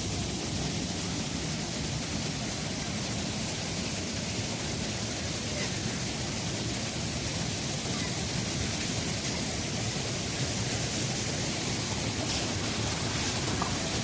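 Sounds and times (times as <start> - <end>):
water rushing at a spring: 0.0 - 14.0.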